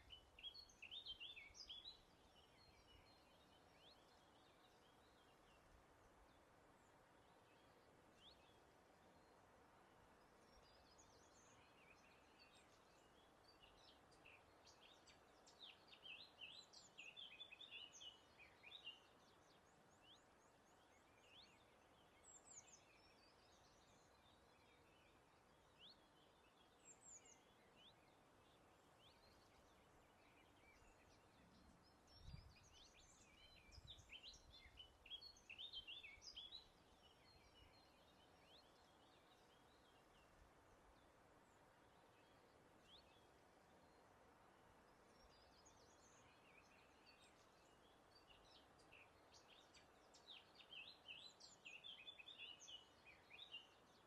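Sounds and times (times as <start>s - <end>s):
faint birds chirping: 0.0s - 54.0s
soft steady hiss: 0.0s - 54.0s.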